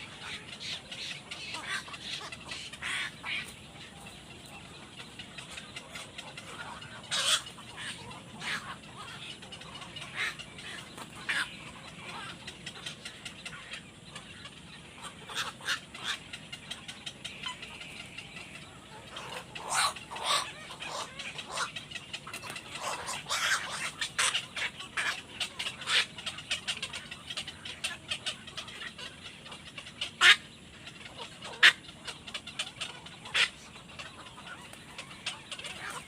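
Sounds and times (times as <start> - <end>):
birds calling: 0.0 - 36.0.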